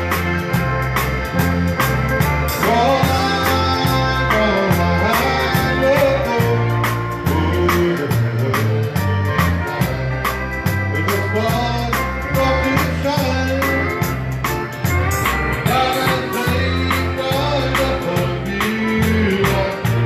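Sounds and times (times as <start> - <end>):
live country band playing: 0.0 - 20.0
person singing: 2.5 - 14.2, 15.2 - 20.0.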